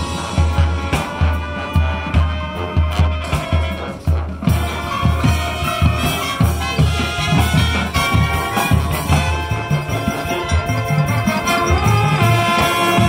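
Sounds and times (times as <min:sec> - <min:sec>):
brass chords: 0:00.0 - 0:13.0
percussion beat: 0:00.0 - 0:13.0.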